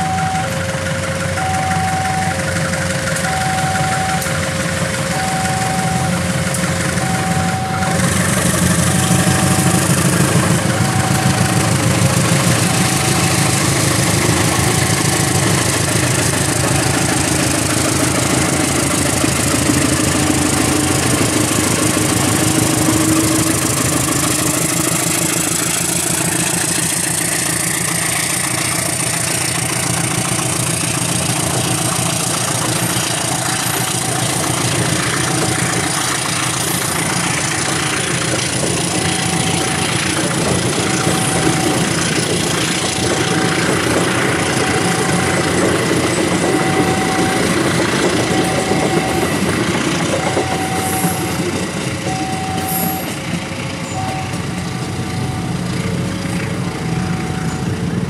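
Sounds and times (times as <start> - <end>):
locomotive engine accelerating: 0.0 - 58.0
two-tone warning alarm: 0.0 - 58.0.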